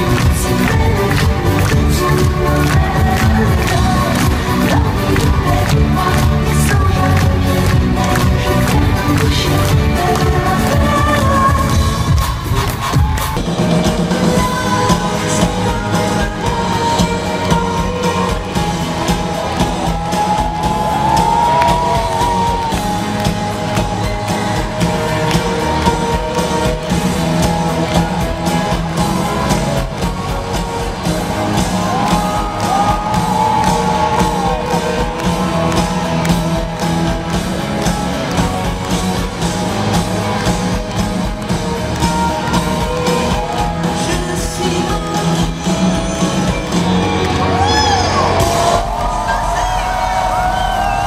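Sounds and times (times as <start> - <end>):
live pop-rock band in arena: 0.0 - 51.0.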